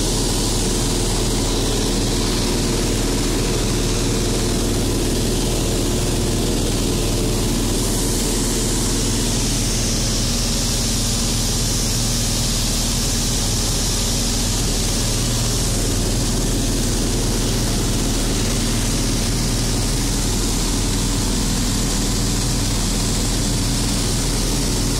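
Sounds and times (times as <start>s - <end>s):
air rushing over airframe: 0.0s - 24.9s
propeller aircraft engine drone: 0.0s - 24.9s.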